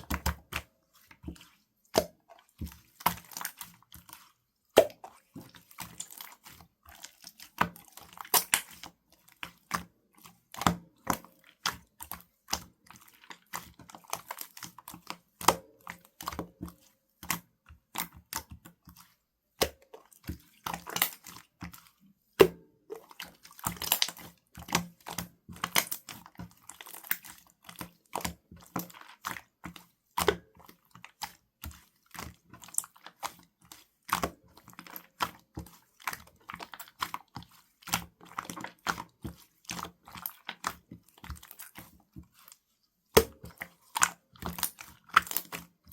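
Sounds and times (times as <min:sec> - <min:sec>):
slime squelching by hand: 0:00.0 - 0:45.9.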